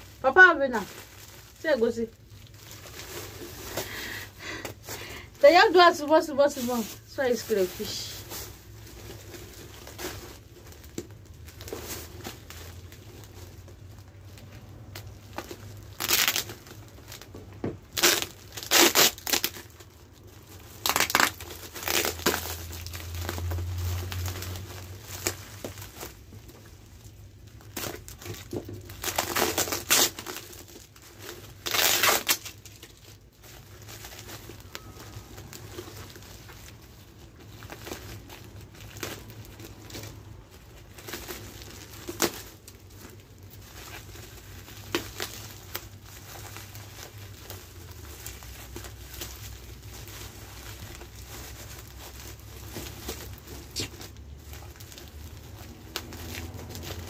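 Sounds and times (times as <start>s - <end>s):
plastic bags crinkling: 0.0s - 57.0s.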